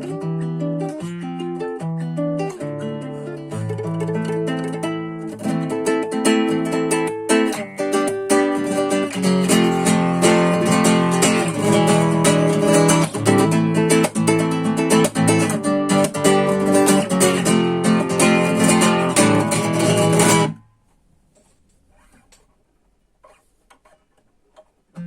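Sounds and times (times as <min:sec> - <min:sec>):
classical guitar playing: 0:00.0 - 0:20.7, 0:23.2 - 0:25.0.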